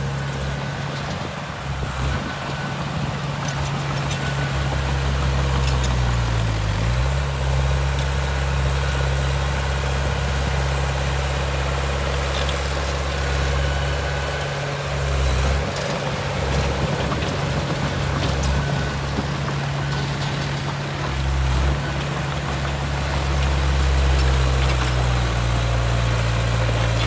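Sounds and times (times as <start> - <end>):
heavy diesel engine droning: 0.0 - 27.0.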